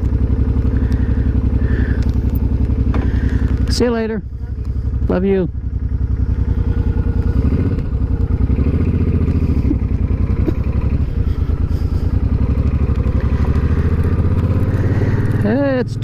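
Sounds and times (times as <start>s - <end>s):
motorcycle engine pulling away: 0.0s - 16.0s.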